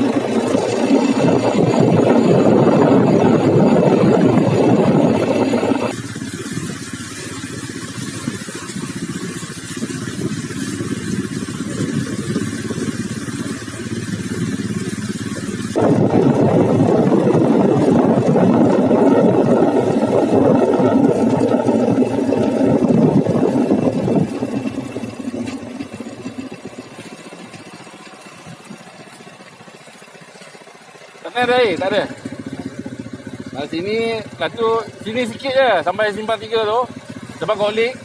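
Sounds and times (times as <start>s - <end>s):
motor vehicle running: 0.0s - 38.0s.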